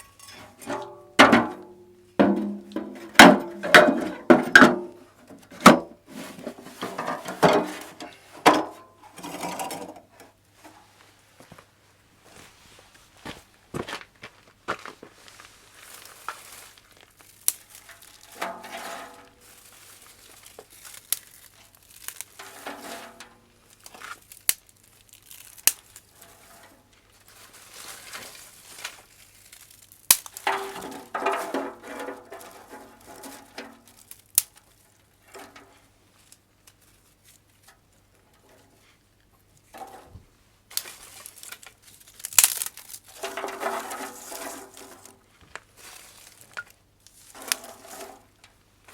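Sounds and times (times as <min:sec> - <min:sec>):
rustling and crinkling: 0:00.0 - 0:48.9.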